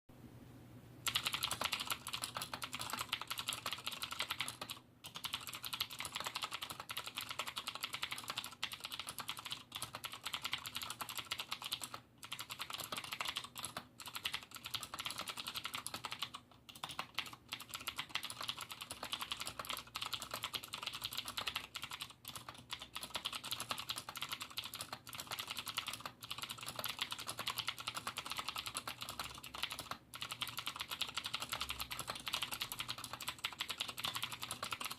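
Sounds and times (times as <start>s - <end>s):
fast typing on mechanical keyboard: 1.0s - 34.9s.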